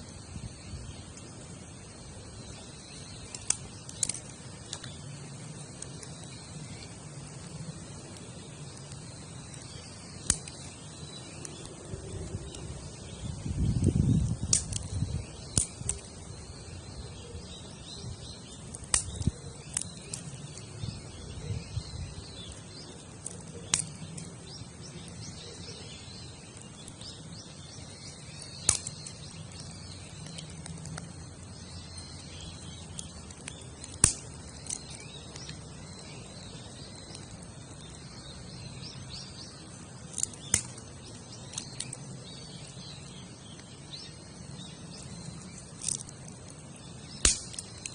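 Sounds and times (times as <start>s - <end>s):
campfire crackling and popping: 0.1s - 47.9s.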